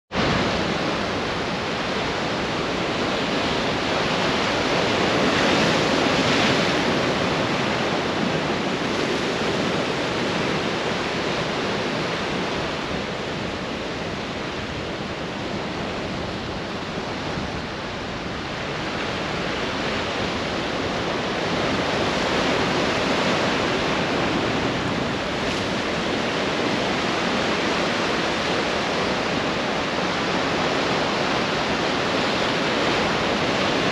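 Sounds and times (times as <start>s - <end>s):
ocean waves breaking on beach: 0.1s - 33.9s.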